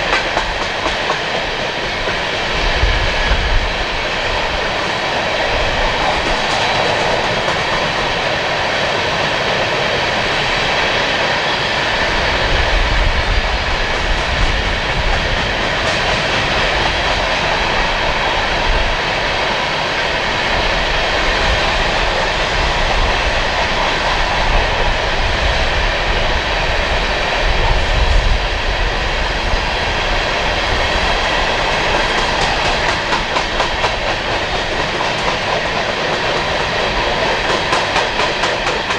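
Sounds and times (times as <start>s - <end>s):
freight cars rumbling on rail: 0.0s - 38.9s.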